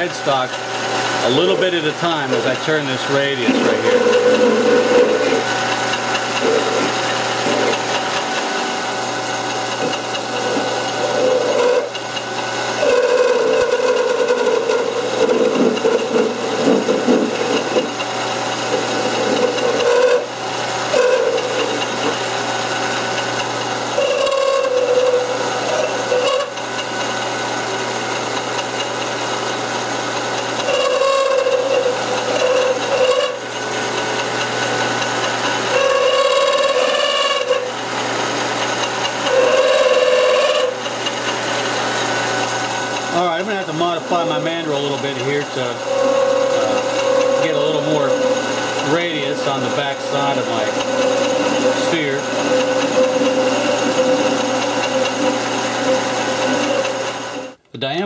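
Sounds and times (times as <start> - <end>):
lathe cutter cutting aluminium: 0.0 - 57.6
metal lathe running: 0.0 - 57.6.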